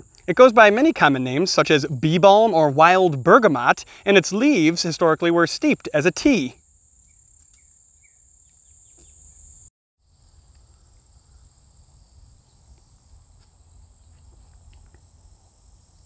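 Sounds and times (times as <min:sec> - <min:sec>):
insects trilling: 0:00.1 - 0:16.0.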